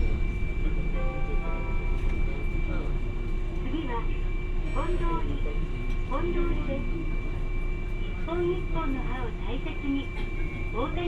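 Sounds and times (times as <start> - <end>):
streetcar rumbling: 0.0 - 11.0.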